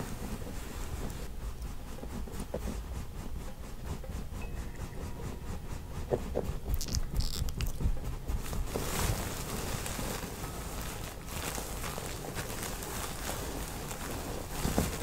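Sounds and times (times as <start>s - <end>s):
hands rubbing skin: 0.0s - 15.0s.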